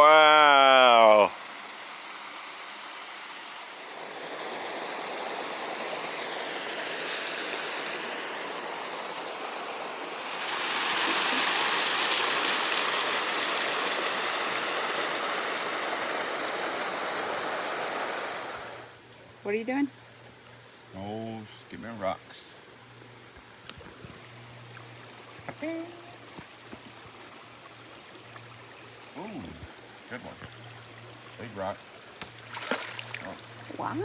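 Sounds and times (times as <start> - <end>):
waterfall and creek rushing: 0.0 - 19.0, 25.3 - 34.0.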